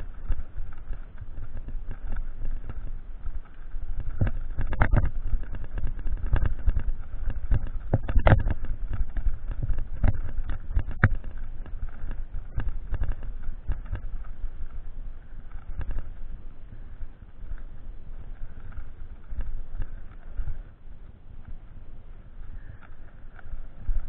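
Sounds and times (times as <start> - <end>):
mountain bike rattling: 0.0 - 24.0
wind on microphone: 0.0 - 24.0.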